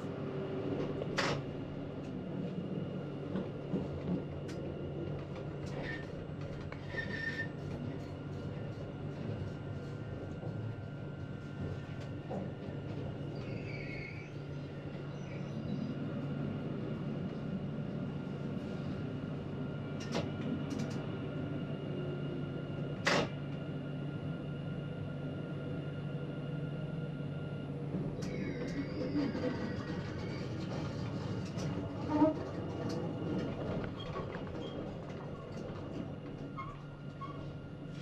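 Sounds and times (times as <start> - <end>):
electric tram humming: 0.0 - 38.0.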